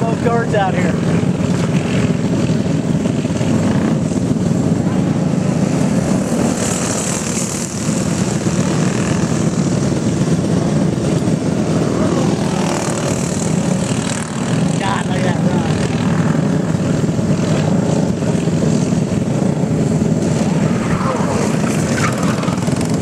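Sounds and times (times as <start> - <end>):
go-kart engines buzzing: 0.0 - 23.0.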